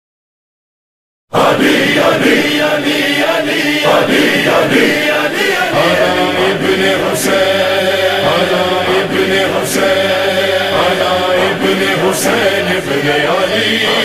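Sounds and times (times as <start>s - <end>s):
chorus of voices chanting: 1.3s - 14.0s
low held drone: 1.7s - 14.0s.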